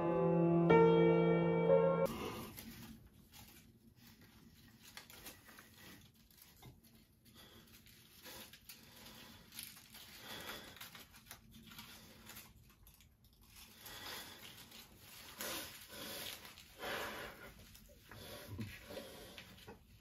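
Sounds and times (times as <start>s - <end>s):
paper rustling and tearing: 2.1s - 20.0s.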